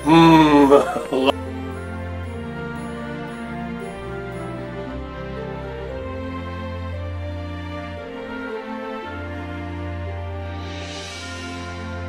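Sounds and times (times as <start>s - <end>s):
soft slow background music: 0.0s - 12.0s.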